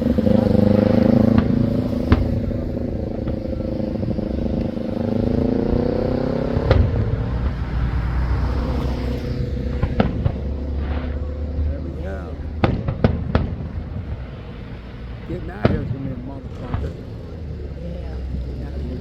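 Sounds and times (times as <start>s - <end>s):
firework bangs: 0.0s - 19.0s
vehicle engine running: 0.0s - 19.0s.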